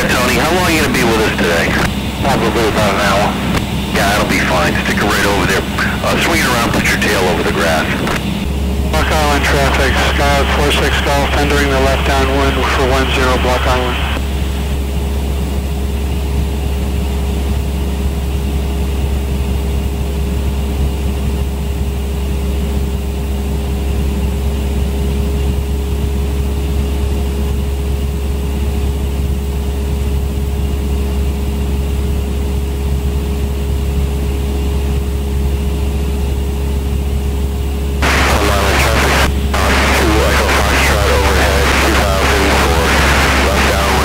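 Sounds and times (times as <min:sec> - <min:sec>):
plane engine and propeller drone: 0:00.0 - 0:44.0.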